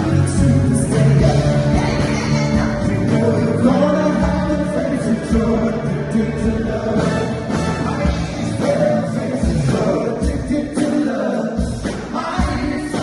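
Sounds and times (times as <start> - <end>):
backing vocals: 0.0 - 13.0
band playing: 0.0 - 13.0
lead vocalist singing: 0.0 - 13.0.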